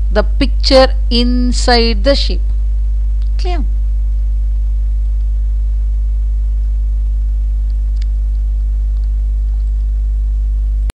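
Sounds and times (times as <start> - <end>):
electrical mains hum: 0.0 - 10.9.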